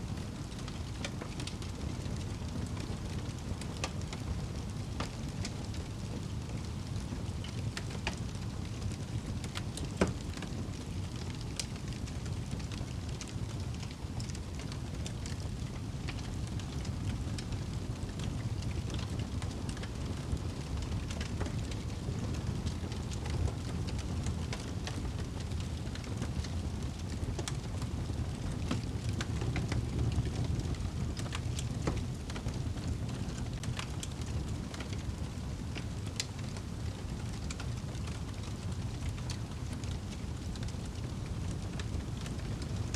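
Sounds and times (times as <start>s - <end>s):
fireplace fire crackling: 0.0s - 42.9s.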